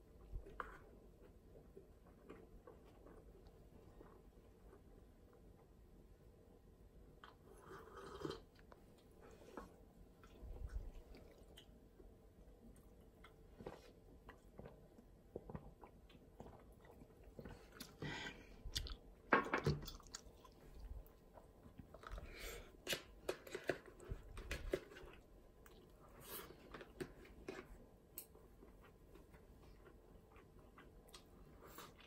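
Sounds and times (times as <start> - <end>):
chewing with crunching: 0.0 - 5.7, 7.2 - 32.0.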